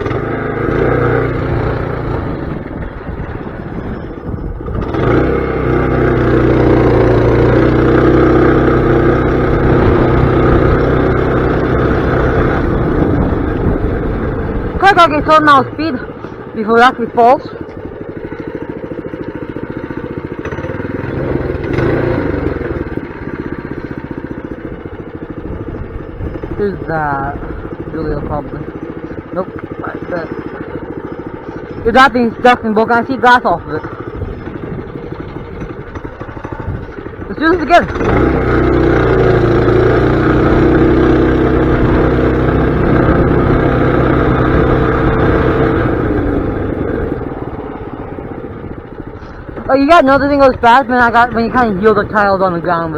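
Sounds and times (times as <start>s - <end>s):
small engine puttering: 0.0s - 52.9s.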